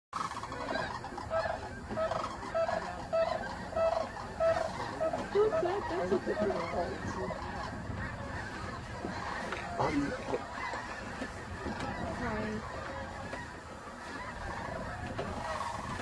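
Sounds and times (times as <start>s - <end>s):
geese honking: 0.2s - 16.0s.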